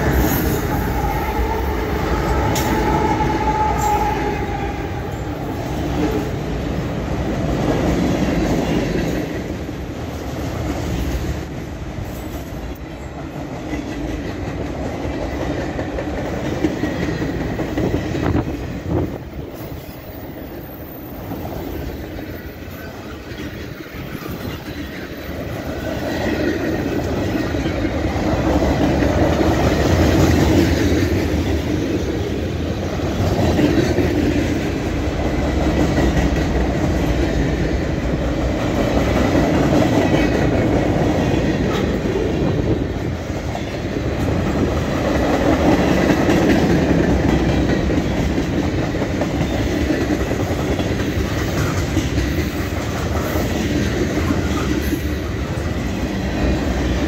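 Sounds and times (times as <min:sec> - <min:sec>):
train wheels rumbling and clacking: 0:00.0 - 0:57.0.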